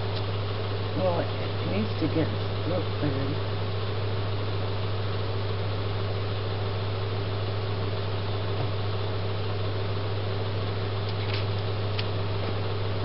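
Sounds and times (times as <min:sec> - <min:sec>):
appliance humming with hiss: 0:00.0 - 0:13.0.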